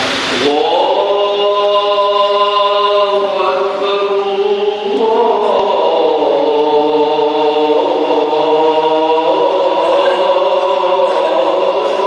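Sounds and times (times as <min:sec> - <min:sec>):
man singing call to prayer: 0:00.3 - 0:12.0.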